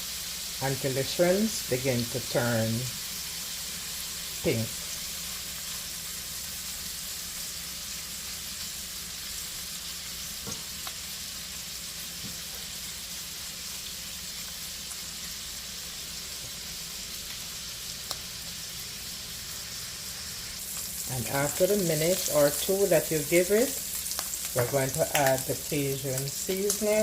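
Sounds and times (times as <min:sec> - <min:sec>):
shrimp sizzling in oil: 0:00.0 - 0:27.0.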